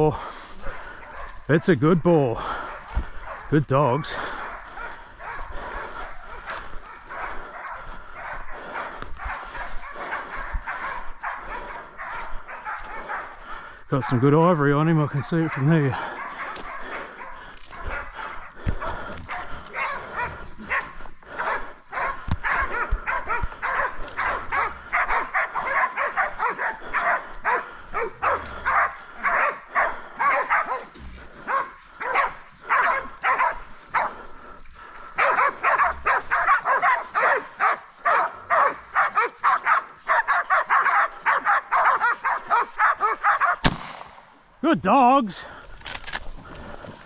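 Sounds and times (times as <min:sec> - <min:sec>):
dogs barking rapidly: 0:00.0 - 0:43.7.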